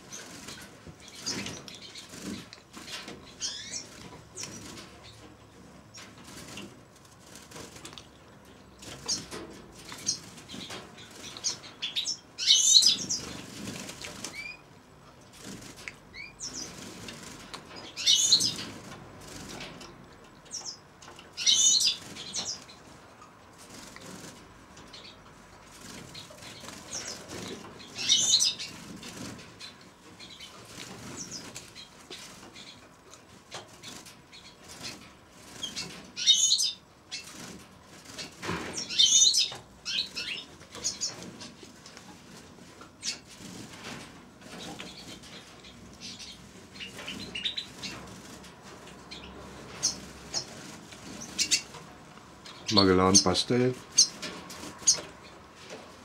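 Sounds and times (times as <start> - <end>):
wings fluttering: 0.0 - 5.3, 5.9 - 8.1, 8.8 - 14.6, 15.3 - 19.9, 21.4 - 56.0.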